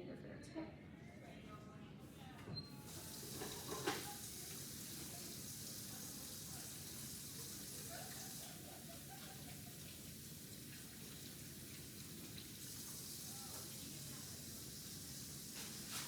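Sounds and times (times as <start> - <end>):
water running from sink tap: 2.9 - 16.0.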